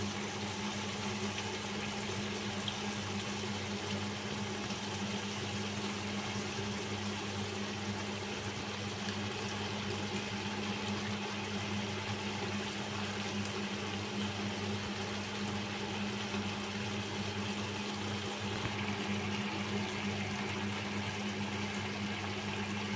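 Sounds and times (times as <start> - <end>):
stew bubbling in a pot: 0.0 - 22.9.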